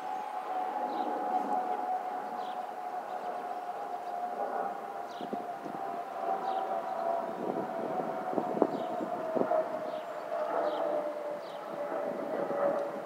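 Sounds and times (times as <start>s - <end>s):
airliner high whistle: 0.0s - 13.0s
jet engines rushing: 0.0s - 13.0s.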